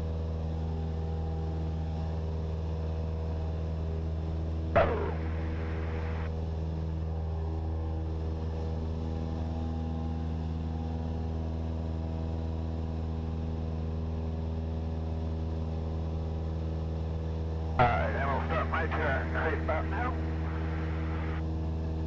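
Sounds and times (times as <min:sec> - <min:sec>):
aircraft engine and propeller drone: 0:00.0 - 0:22.0.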